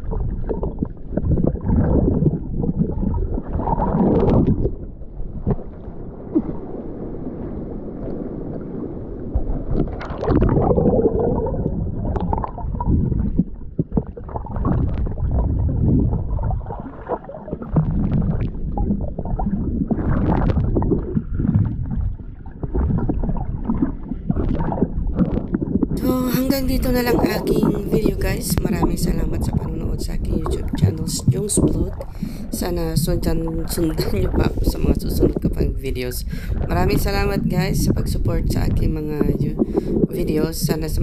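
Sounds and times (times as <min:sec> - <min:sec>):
underwater water sloshing and gurgling: 0:00.0 - 0:41.0.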